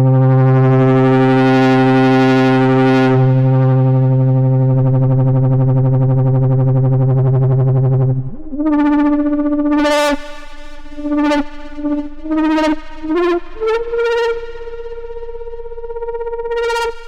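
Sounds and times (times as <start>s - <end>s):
synthesizer lead notes: 3.3s - 17.0s.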